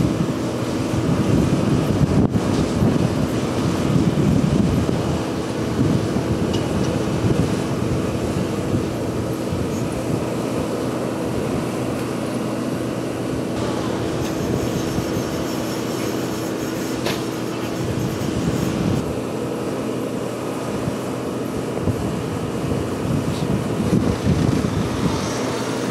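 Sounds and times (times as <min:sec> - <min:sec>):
machinery droning with hiss: 0:00.0 - 0:25.9.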